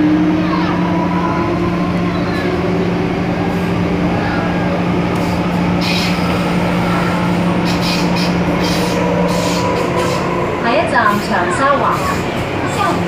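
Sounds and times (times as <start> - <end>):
train motor hum: 0.0 - 13.0
train wheels rumbling on track: 0.0 - 13.0.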